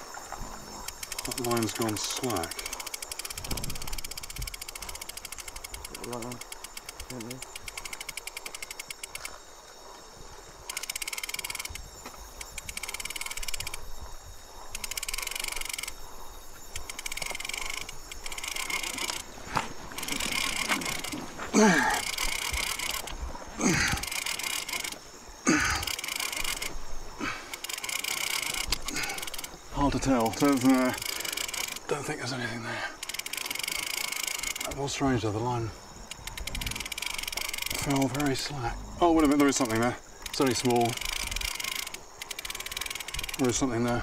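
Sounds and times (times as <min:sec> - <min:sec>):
fishing reel whirring and clicking: 0:00.7 - 0:09.4, 0:10.6 - 0:31.9, 0:32.9 - 0:35.3, 0:36.0 - 0:44.0.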